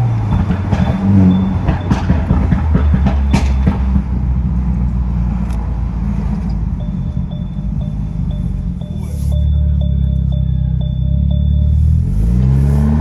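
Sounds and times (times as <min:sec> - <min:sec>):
car engine idling: 0:00.0 - 0:13.0
exhaust popping and crackling: 0:00.0 - 0:13.0.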